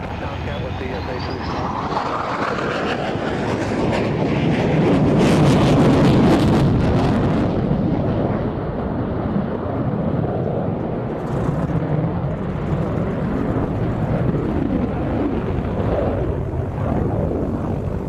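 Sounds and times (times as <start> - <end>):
crackling jet noise: 0.0 - 18.0.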